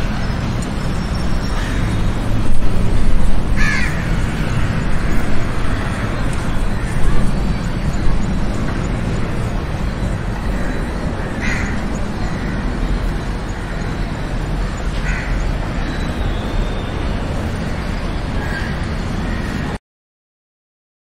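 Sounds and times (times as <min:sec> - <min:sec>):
low outdoor rumble: 0:00.0 - 0:19.8.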